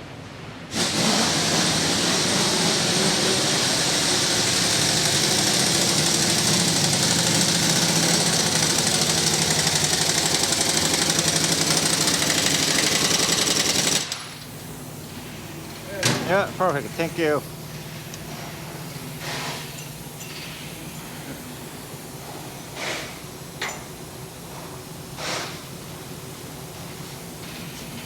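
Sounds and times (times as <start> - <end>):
pneumatic impact wrench hammering: 0.7 - 16.9, 18.0 - 24.0, 25.1 - 25.8
loud air hiss: 0.7 - 28.0.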